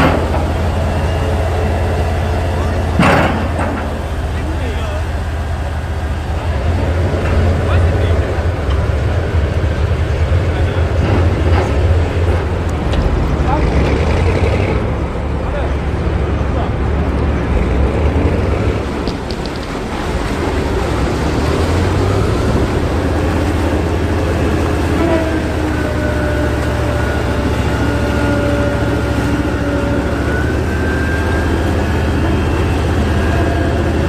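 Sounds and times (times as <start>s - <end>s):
heavy engine droning: 0.0s - 34.0s.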